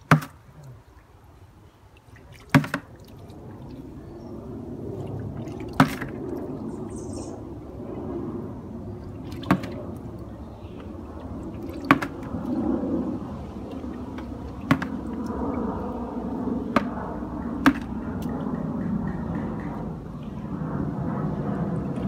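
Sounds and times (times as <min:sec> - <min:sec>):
bucket splashing in pond: 0:00.0 - 0:07.8, 0:08.4 - 0:18.3
water washing: 0:00.0 - 0:18.1.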